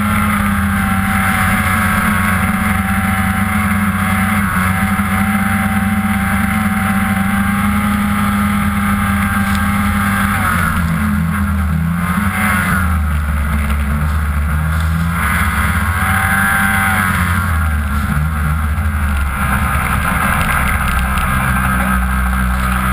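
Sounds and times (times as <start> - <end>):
snowmobile engine running hard: 0.0 - 22.9.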